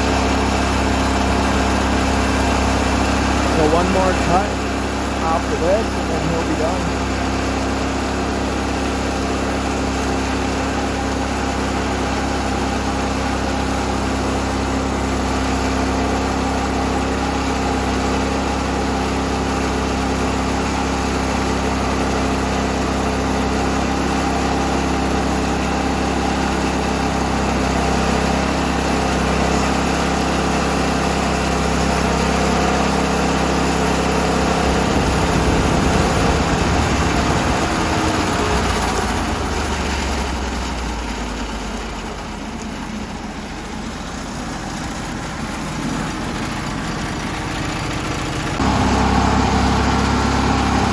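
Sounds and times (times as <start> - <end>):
band sawmill engine humming: 0.0 - 50.9.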